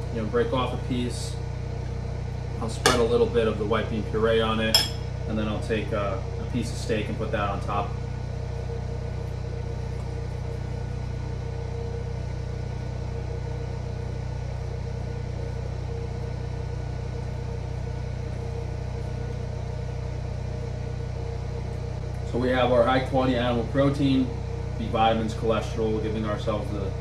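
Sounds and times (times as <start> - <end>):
generator engine humming: 0.0 - 27.0.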